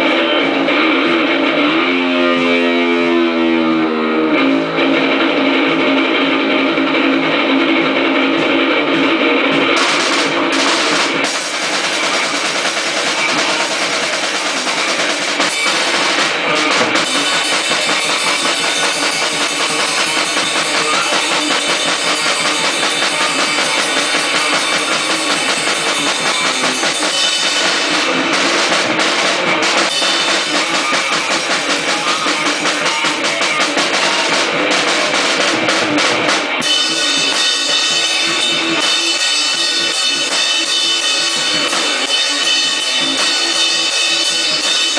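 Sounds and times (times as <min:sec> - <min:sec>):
death grind noise music: 0:00.0 - 0:44.9
very fast drumming: 0:04.3 - 0:44.9.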